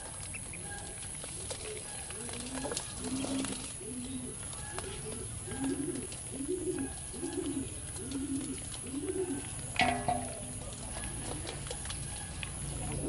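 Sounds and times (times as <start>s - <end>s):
bird calling: 0.3s - 13.0s.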